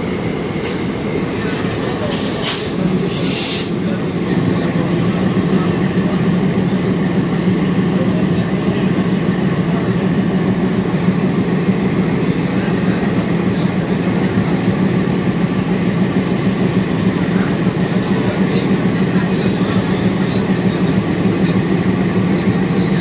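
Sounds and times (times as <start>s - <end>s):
diesel locomotive engine idling: 0.0s - 23.0s.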